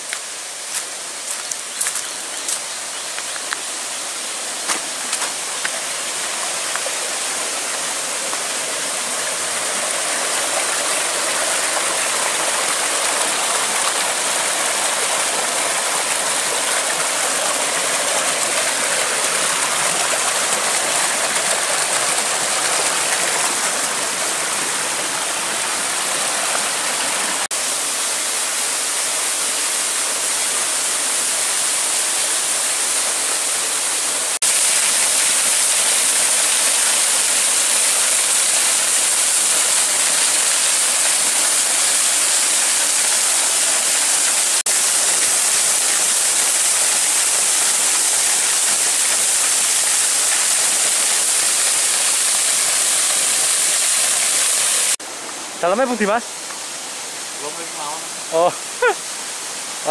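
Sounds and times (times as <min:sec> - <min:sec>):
small waterfall splashing: 0:00.0 - 0:59.9
water rushing over rocks: 0:00.0 - 0:59.9.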